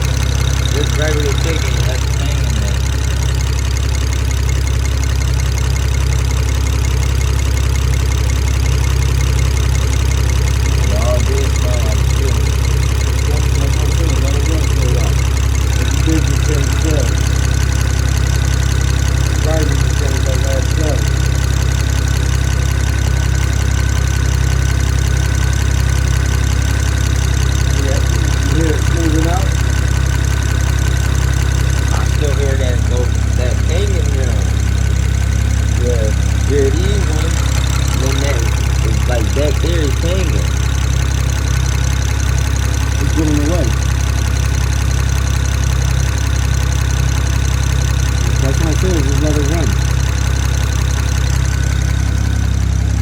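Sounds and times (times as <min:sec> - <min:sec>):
car engine idling: 0:00.0 - 0:53.0
engine pinging: 0:00.0 - 0:53.0
fast regular ticking: 0:00.0 - 0:53.0.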